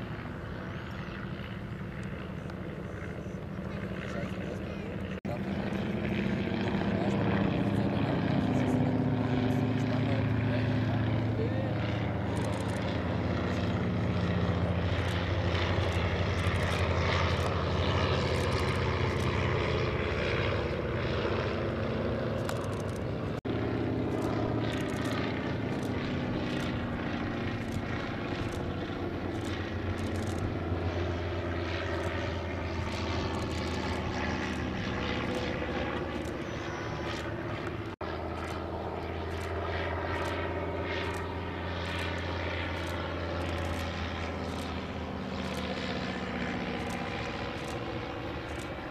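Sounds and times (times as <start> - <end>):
propeller planes flying overhead: 0.0 - 48.9.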